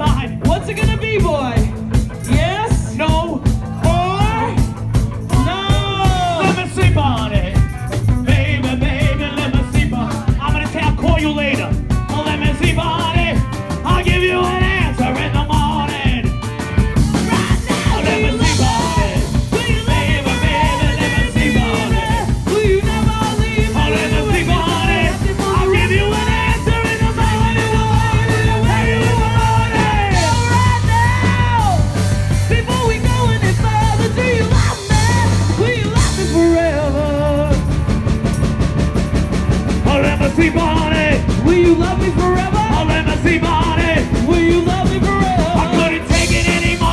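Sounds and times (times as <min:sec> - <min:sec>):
live rock band playing: 0:00.0 - 0:46.9
person singing: 0:02.5 - 0:37.9, 0:39.8 - 0:46.9.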